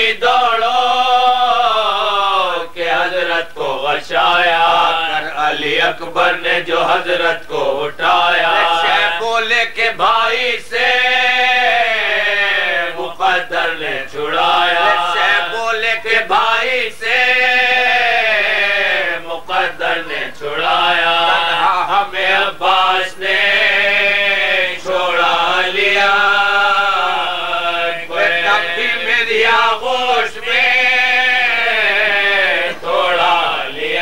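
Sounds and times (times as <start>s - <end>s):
men chanting a lament: 0.0s - 34.0s.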